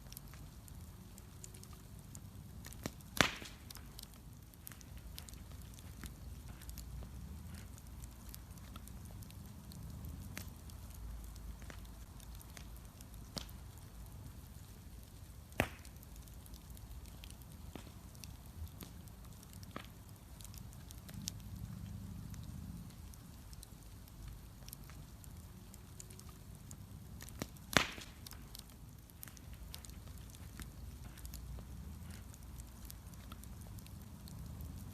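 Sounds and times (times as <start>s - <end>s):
sharp cracks of burning wood: 0.0s - 34.9s
wood bonfire crackling: 0.0s - 34.9s.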